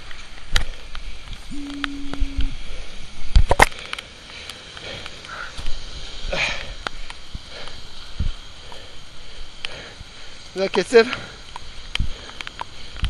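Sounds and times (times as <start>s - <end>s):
heavy rain on pavement: 2.4s - 13.0s.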